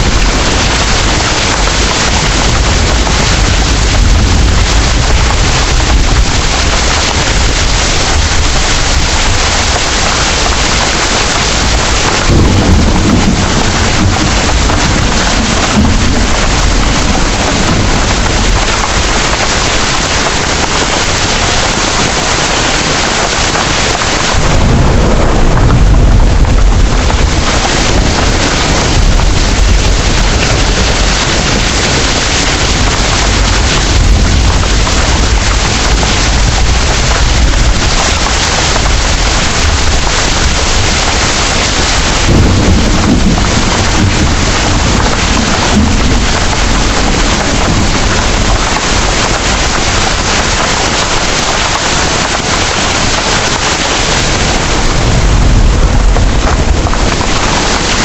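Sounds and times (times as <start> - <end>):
heavy rain pouring: 0.0 - 58.0
thunder rumbling: 0.0 - 58.0.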